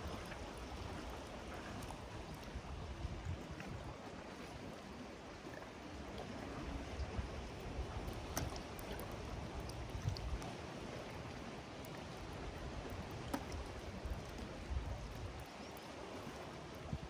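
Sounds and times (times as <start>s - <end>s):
sea water washing: 0.0s - 17.0s.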